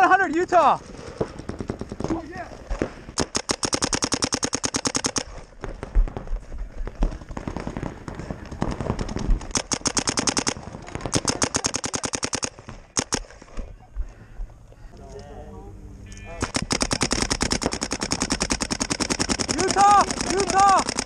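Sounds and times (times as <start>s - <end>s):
paintball marker firing rapidly: 0.3s - 13.3s, 16.4s - 21.0s.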